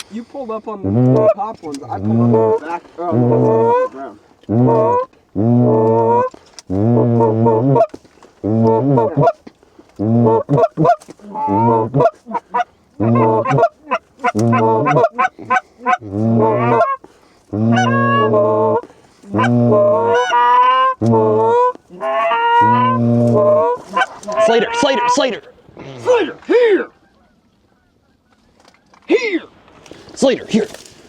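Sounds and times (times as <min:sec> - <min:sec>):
goose call honks and clucks: 0:00.0 - 0:29.1.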